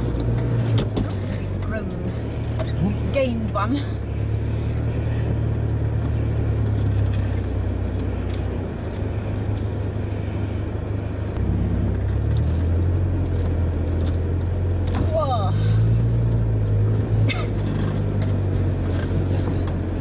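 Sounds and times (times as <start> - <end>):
vehicle engine at low revs: 0.0 - 20.0.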